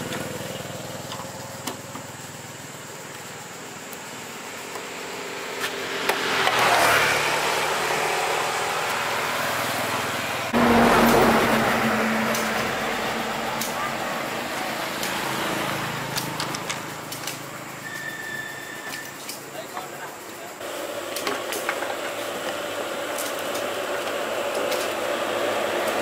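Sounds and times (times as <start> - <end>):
motorbike passing: 0.0 - 20.0, 20.6 - 26.0
engine humming: 0.0 - 26.0.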